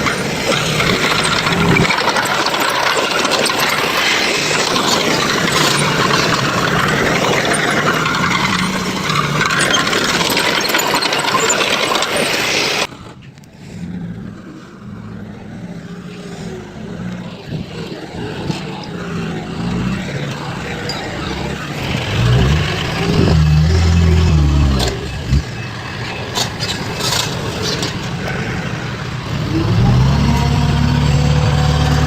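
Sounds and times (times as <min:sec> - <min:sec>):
heavy machinery engine running: 0:00.0 - 0:32.0.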